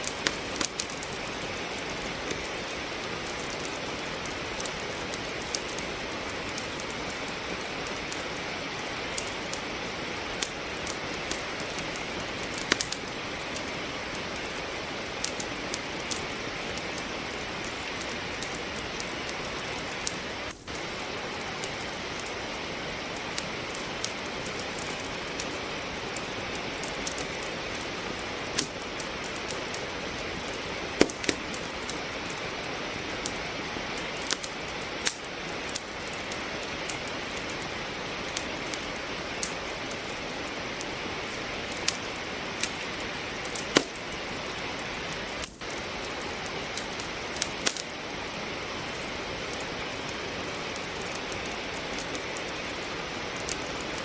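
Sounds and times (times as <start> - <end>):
rain hiss: 0.0 - 54.0
wood logs crackling in fireplace: 0.0 - 54.0.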